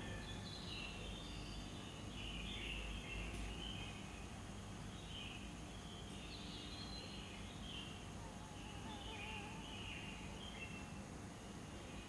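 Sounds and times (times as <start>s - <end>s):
faint bird chirping: 0.0s - 12.0s
low steady hum: 0.0s - 12.0s.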